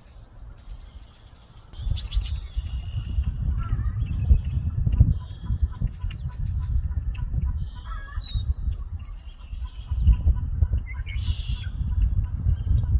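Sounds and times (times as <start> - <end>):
harsh bird calls: 0.0 - 12.9
steady low rumble: 0.0 - 12.9.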